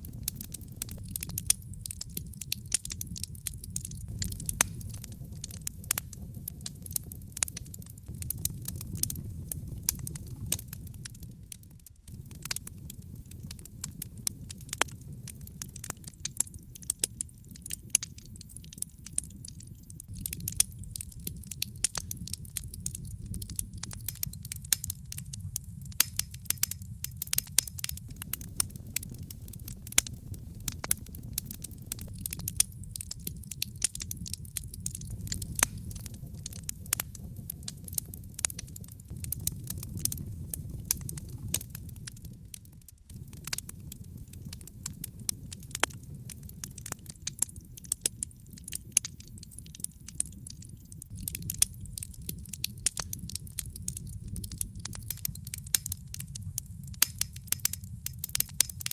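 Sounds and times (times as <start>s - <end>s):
fire pops and snaps: 0.0s - 58.9s
low rumble of burning: 0.0s - 58.9s
wood fire crackling: 0.0s - 58.9s.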